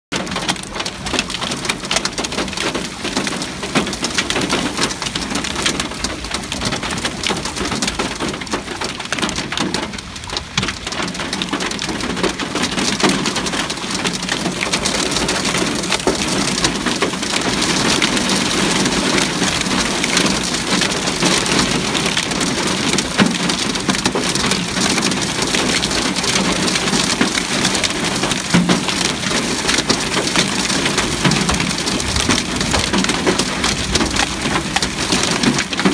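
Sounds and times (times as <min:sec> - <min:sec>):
hailstones clicking: 0:00.2 - 0:35.9.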